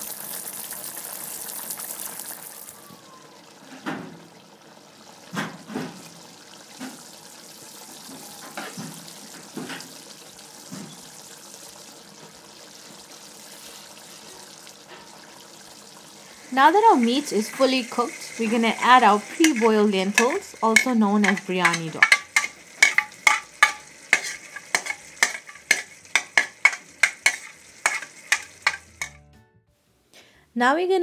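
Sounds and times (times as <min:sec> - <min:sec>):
curry sizzling hiss: 0:00.0 - 0:29.2
thick gravy simmering and plopping: 0:00.0 - 0:29.2.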